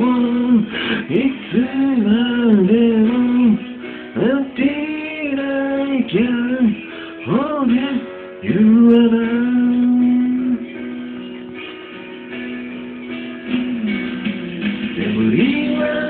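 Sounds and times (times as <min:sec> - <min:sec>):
person singing into microphone: 0:00.0 - 0:10.8, 0:13.5 - 0:16.0
backing music: 0:00.0 - 0:16.0.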